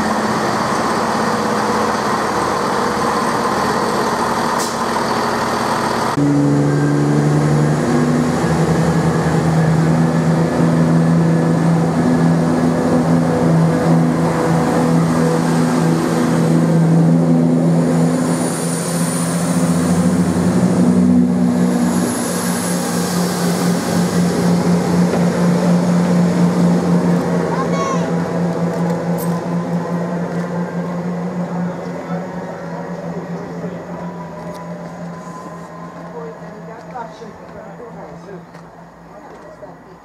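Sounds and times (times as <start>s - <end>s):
train diesel engines droning: 0.0s - 40.0s.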